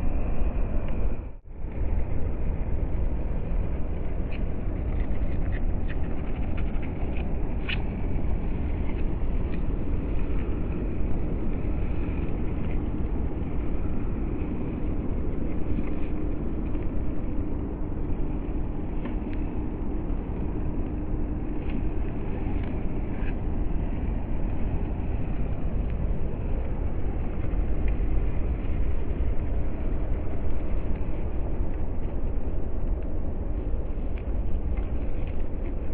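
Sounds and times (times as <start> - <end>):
low rumble: 0.0 - 35.9.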